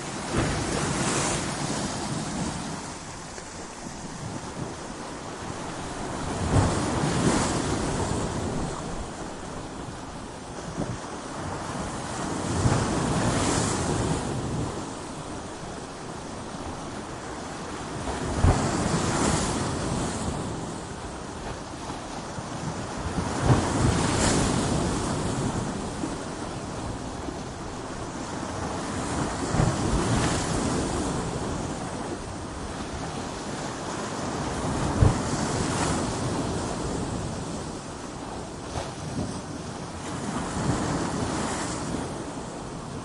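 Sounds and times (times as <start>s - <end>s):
ocean waves breaking on rocks: 0.0s - 43.0s.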